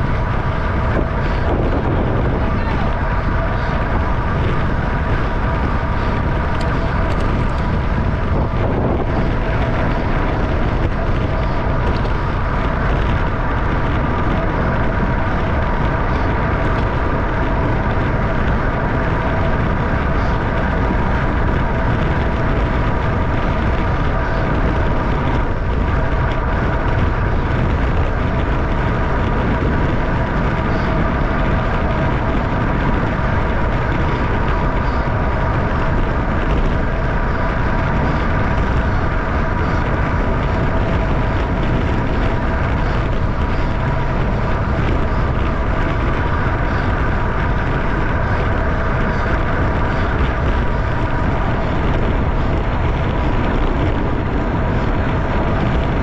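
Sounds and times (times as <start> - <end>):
bicycle tyre road noise: 0.0 - 56.0
steady whirring hum: 0.0 - 56.0
wind buffeting microphone: 0.0 - 56.0.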